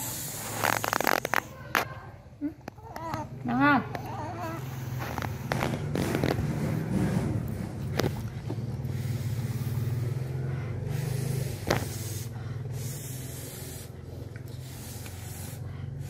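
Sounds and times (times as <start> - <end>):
low motor hum: 2.4 - 16.0.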